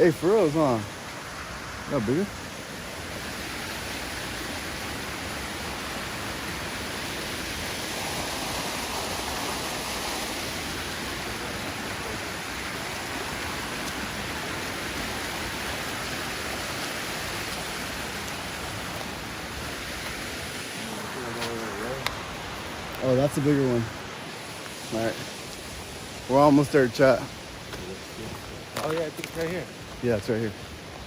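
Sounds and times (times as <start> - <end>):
small waterfall and creek rushing: 0.0 - 31.0.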